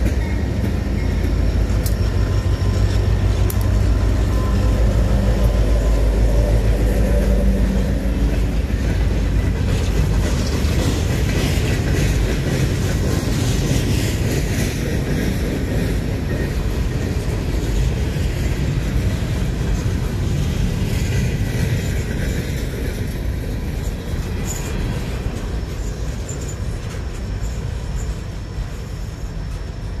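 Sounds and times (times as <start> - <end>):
locomotive diesel engine drumming: 0.0 - 27.7
train wheels clattering on rails: 0.0 - 30.0.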